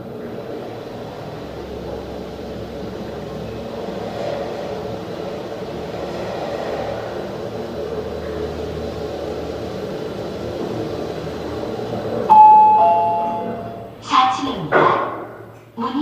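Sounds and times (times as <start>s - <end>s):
elevator hum and rumble: 0.0s - 16.0s.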